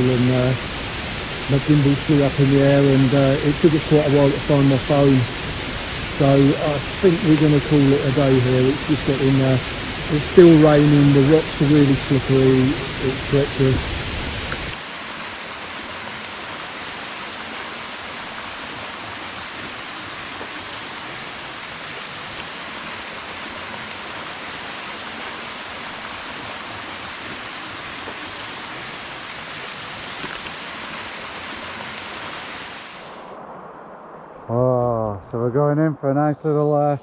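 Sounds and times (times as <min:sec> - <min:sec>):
rushing water hiss: 0:00.0 - 0:34.6.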